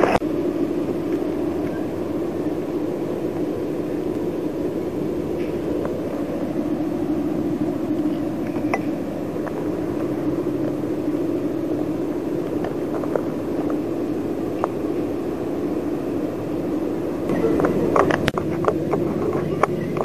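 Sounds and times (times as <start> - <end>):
carriage wash machinery hum: 0.0 - 20.0.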